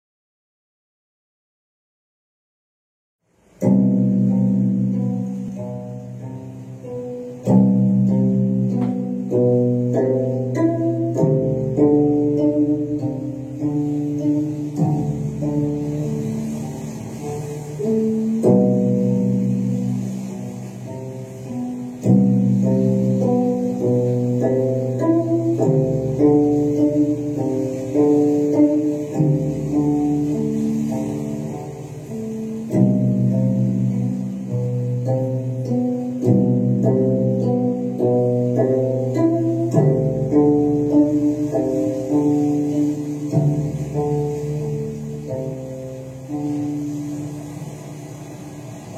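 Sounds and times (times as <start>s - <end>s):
plucked string instrument music: 3.3s - 48.9s.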